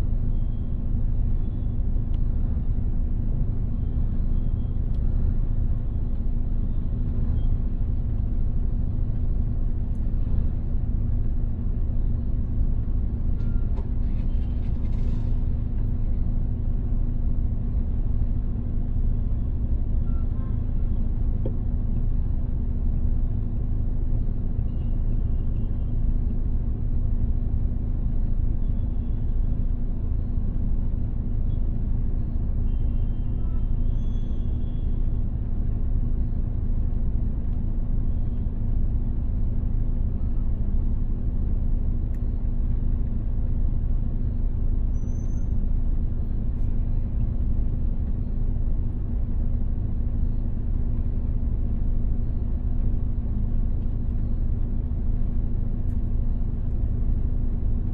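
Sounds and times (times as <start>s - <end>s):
car engine rumble: 0.0s - 57.9s
road noise: 0.0s - 57.9s.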